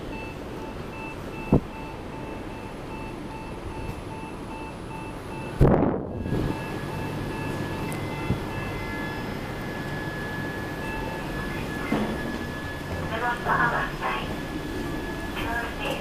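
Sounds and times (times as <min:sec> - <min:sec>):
steady hum: 0:00.0 - 0:16.0
electronic beeping: 0:00.2 - 0:13.9.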